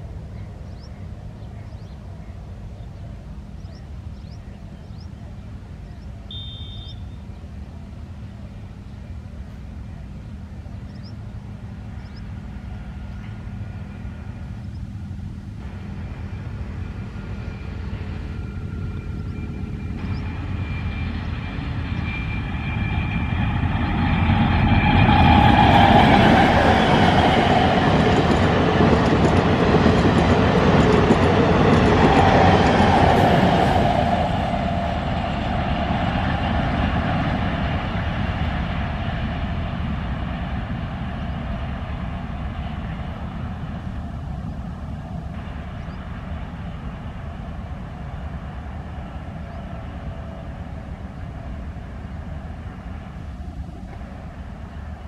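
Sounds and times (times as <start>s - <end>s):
diesel train engine running: 0.0s - 55.0s
train wheels rolling on rails: 7.5s - 55.0s.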